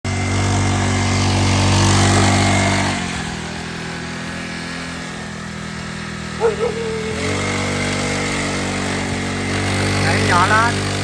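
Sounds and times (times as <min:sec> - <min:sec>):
small dirt bike engine running: 0:00.1 - 0:11.0.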